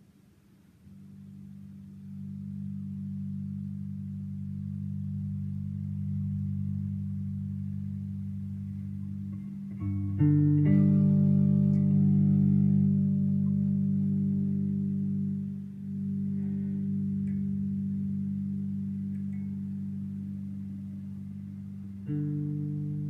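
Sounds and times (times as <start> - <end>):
electric bass notes: 0.9 - 23.0.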